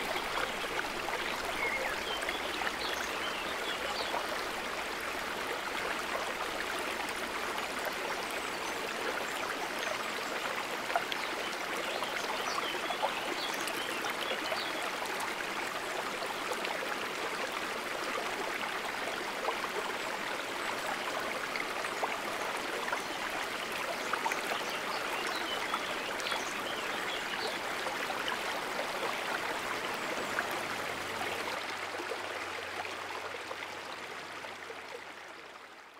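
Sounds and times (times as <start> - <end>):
water babbling in a stream: 0.0 - 35.9.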